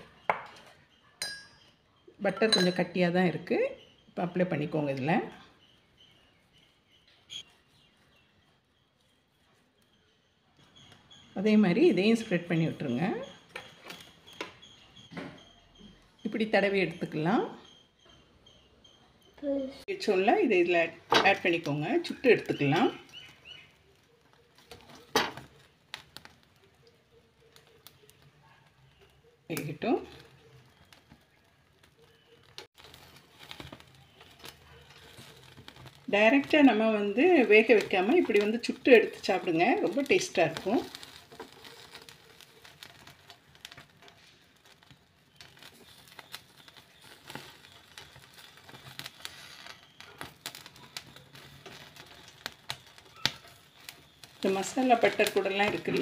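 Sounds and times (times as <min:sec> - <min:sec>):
roasting corn crackling: 0:00.0 - 0:56.0.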